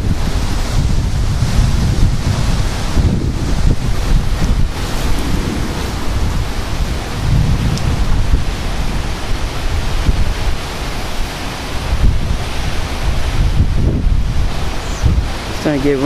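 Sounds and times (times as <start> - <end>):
gusty wind buffeting microphone: 0.0 - 16.0.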